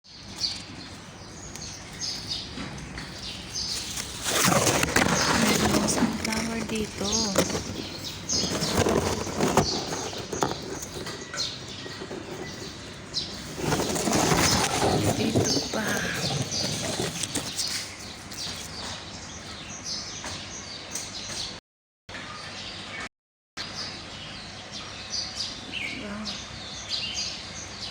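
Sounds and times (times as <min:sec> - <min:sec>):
outdoor background noise: 0:00.0 - 0:27.9
small birds chirping: 0:00.1 - 0:21.6, 0:22.2 - 0:27.9.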